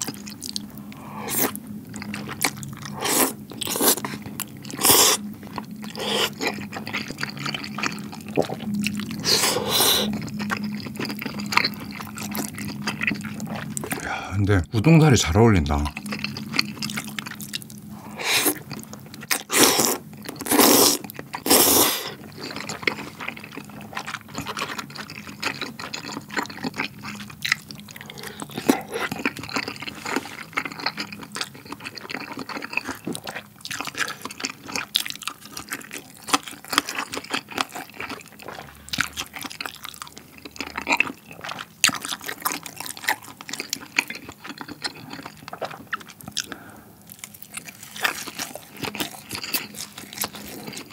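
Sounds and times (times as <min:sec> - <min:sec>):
noodles slurped: 0:00.0 - 0:14.1, 0:15.7 - 0:46.7
wet chewing with mouth smacks: 0:00.0 - 0:14.1, 0:15.9 - 0:50.9.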